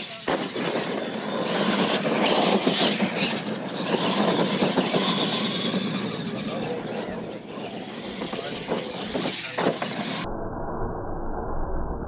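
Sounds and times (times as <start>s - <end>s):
toy truck motors running: 0.0s - 10.3s
tyres churning dirt: 0.0s - 10.3s
high motor whine: 0.0s - 12.0s.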